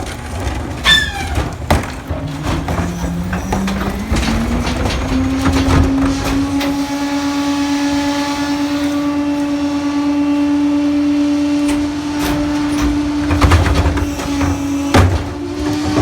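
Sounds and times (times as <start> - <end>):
trash knocking and crunching: 0.0 - 9.6, 11.5 - 16.0
garbage truck engine revving: 0.0 - 16.0.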